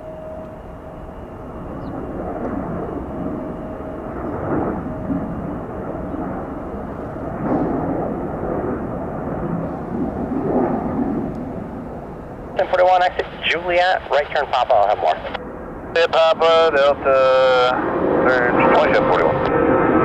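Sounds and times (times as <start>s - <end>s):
jet engine rumbling at takeoff: 0.0s - 20.0s.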